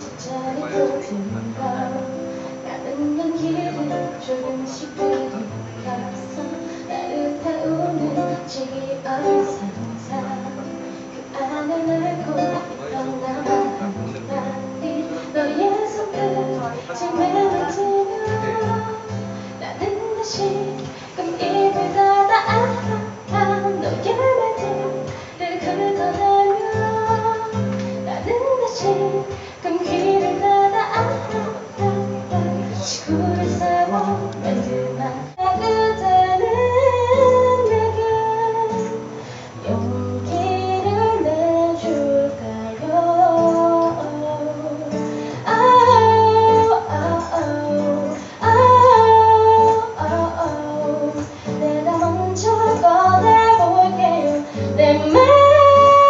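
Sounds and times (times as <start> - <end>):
acoustic guitar strumming: 0.0 - 56.0
woman singing: 0.0 - 56.0.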